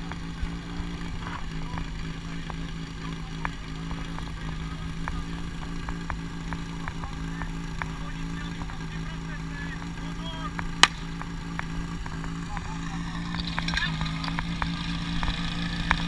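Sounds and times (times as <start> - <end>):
small pump engine idling: 0.0 - 16.0.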